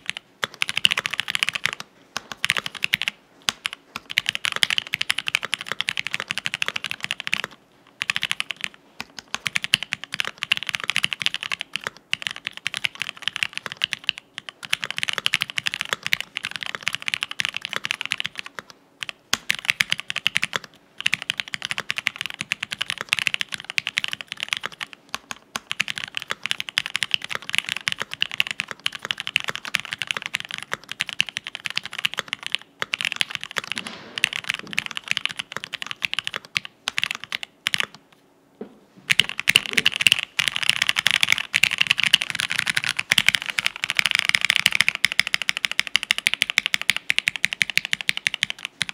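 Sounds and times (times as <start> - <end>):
mechanical keyboard typing: 0.0 - 38.0, 39.1 - 48.9.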